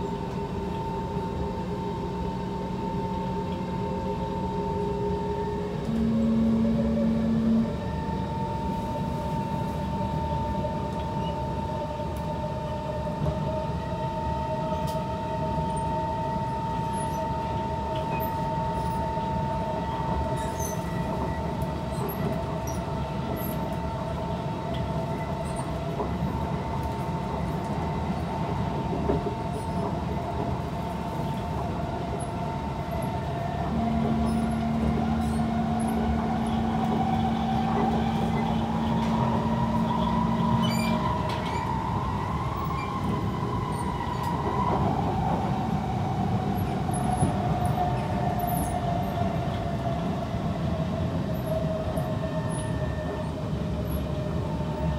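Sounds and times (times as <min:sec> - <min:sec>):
train motor whine: 0:00.0 - 0:54.9
train wheels rumbling on rail: 0:00.0 - 0:54.9.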